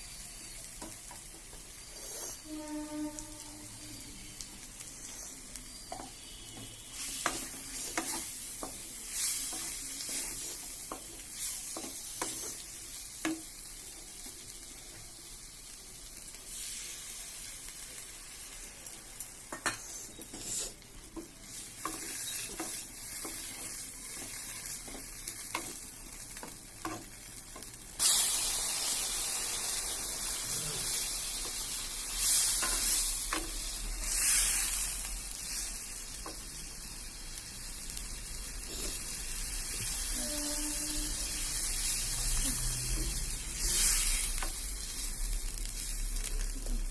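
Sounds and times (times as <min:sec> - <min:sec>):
food sizzling in hot oil: 0:00.0 - 0:46.9.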